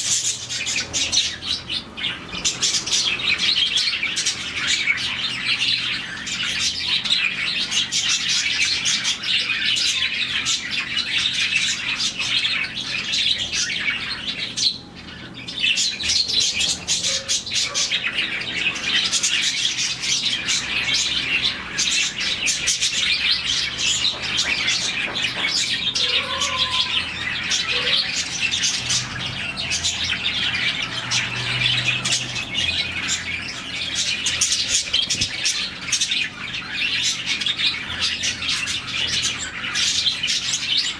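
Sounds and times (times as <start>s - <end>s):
budgies chirping and chattering: 0.0s - 40.9s.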